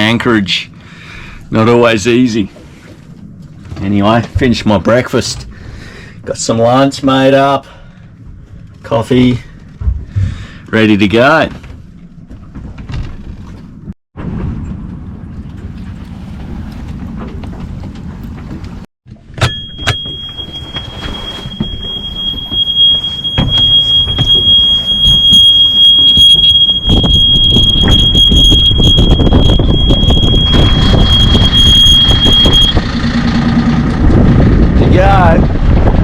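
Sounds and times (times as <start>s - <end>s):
boat engine rumble: 0.0s - 36.0s.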